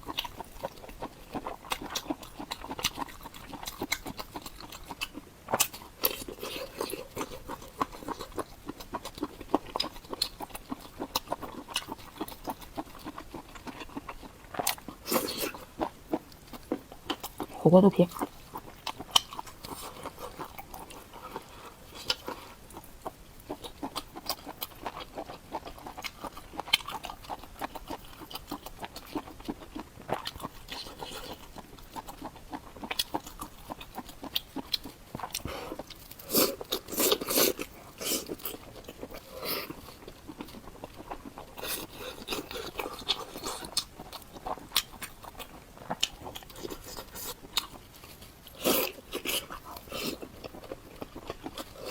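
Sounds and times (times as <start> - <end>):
chewing with mouth clicks: 0.0 - 51.9.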